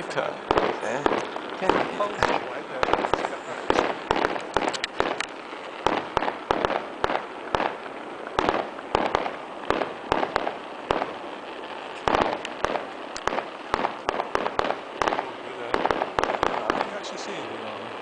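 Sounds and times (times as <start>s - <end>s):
fireworks bangs: 0.0s - 18.0s
fireworks crackle: 0.0s - 18.0s.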